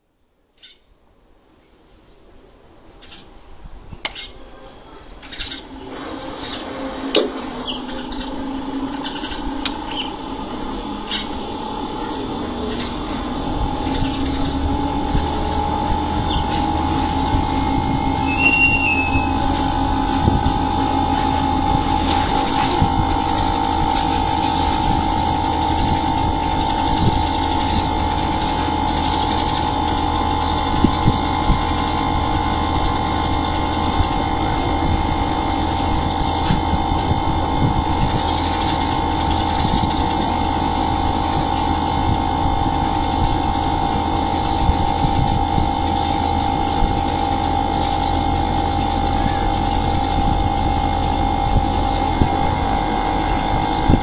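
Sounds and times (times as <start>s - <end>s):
air conditioner humming and whining: 0.0s - 54.0s.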